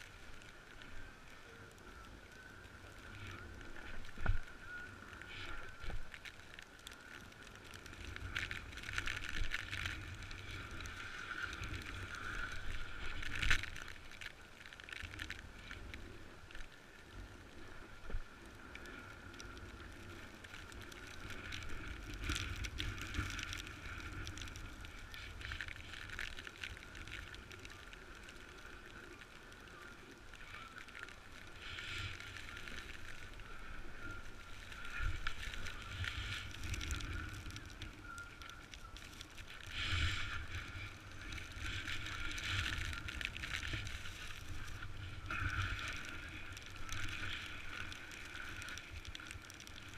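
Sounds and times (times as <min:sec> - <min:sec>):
wind rumbling on microphone: 0:00.0 - 0:49.9.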